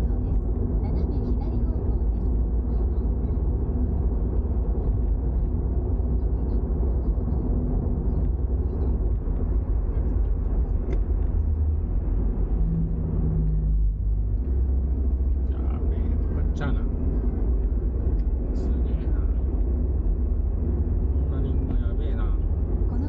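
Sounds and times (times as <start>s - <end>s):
car engine rumble: 0.0s - 23.0s
road noise: 0.0s - 23.0s
steady hum: 0.0s - 23.0s.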